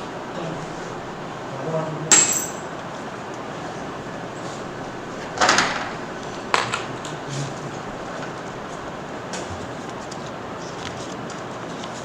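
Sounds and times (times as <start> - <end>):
room hiss: 0.0 - 12.0.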